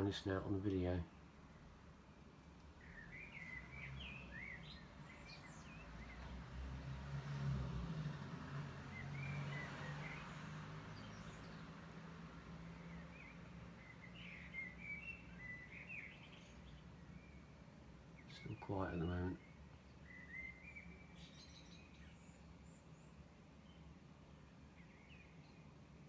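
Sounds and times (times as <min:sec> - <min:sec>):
birds chirping: 0:00.0 - 0:06.9, 0:08.1 - 0:26.0
distant road traffic rumble: 0:00.0 - 0:26.0.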